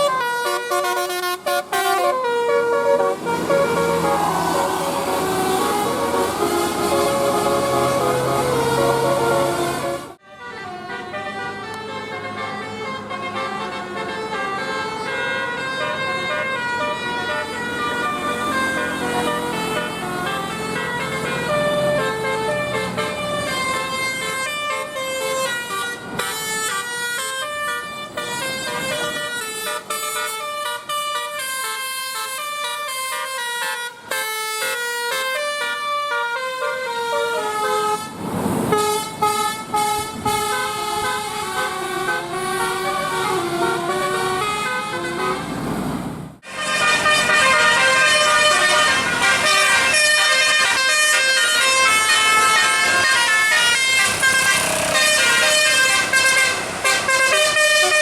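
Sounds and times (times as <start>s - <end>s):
air horn playing a tune: 0.0s - 45.6s, 46.4s - 58.0s.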